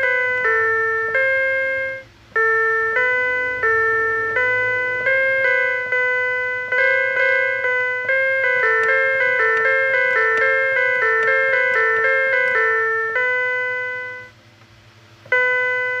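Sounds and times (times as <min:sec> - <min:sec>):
melody of ringing struck notes: 0:00.0 - 0:14.4, 0:15.3 - 0:16.0.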